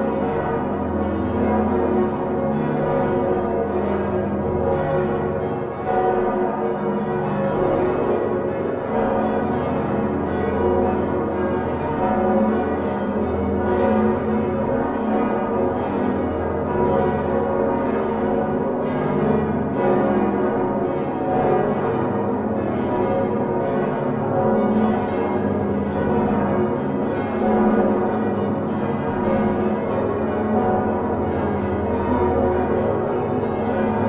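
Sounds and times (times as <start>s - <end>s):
church bells ringing in a peal: 0.0s - 34.0s.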